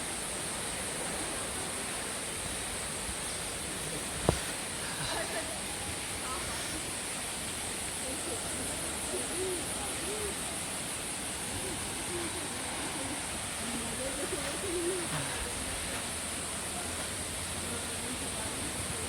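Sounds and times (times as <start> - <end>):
flowing water rushing: 0.0 - 19.0
high hiss: 0.0 - 19.0.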